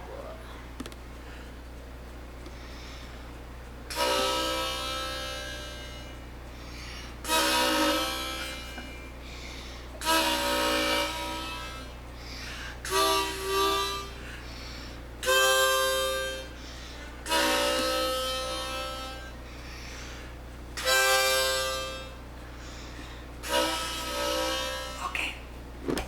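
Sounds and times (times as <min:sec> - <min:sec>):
harmonica chords: 0:02.6 - 0:25.5.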